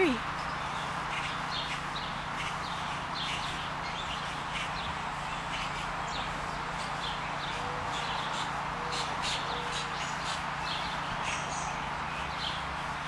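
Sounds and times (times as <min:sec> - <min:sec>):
birds chirping: 0:00.0 - 0:13.0
steady rushing noise: 0:00.0 - 0:13.0.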